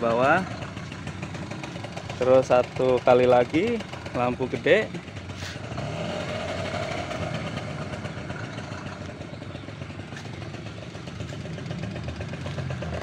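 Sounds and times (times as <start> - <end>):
scooter engine idling: 0.0 - 13.0.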